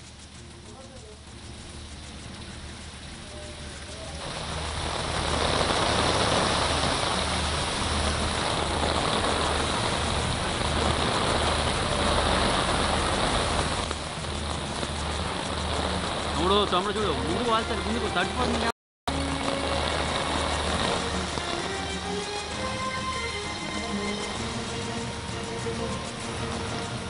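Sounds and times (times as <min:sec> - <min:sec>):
car engines: 0:00.0 - 0:27.0
heavy rain: 0:00.0 - 0:27.0
low regular pulsing: 0:00.0 - 0:27.0
tyre spray on wet road: 0:00.0 - 0:27.0.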